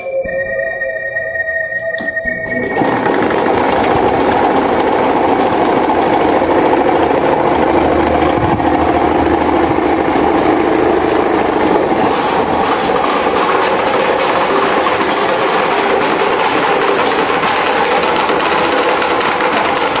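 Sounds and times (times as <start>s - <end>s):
electric fans whirring: 0.0s - 20.0s.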